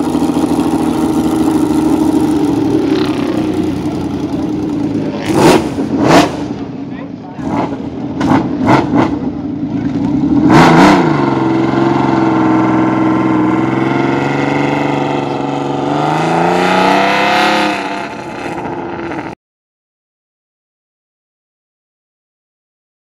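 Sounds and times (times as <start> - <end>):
racing motorcycle engine revving: 0.0 - 19.4.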